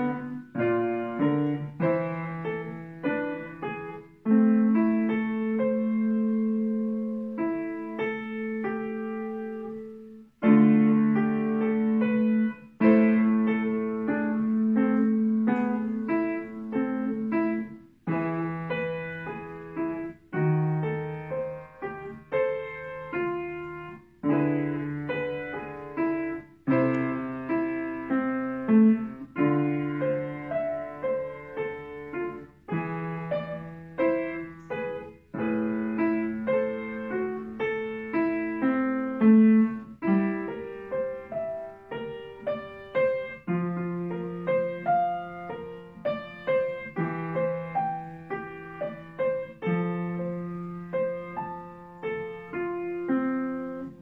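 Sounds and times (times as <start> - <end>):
solo classical piano piece: 0.0 - 54.0.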